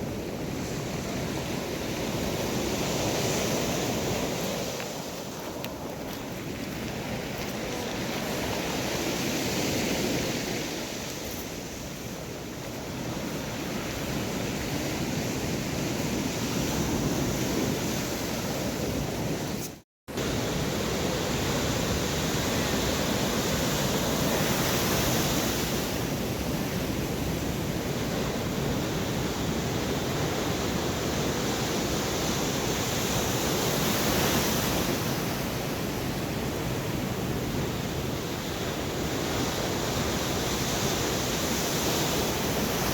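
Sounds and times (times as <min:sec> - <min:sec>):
storm surf breaking on beach: 0:00.0 - 0:42.9.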